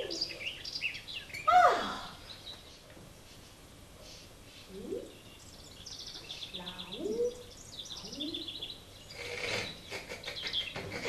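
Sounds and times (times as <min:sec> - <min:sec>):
bird twittering trills: 0:00.0 - 0:02.8, 0:04.6 - 0:11.0.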